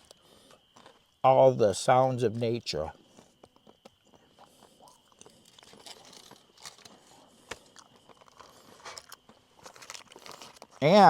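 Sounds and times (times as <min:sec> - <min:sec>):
faint crunching and rustling: 0:00.0 - 0:01.2, 0:02.8 - 0:11.0.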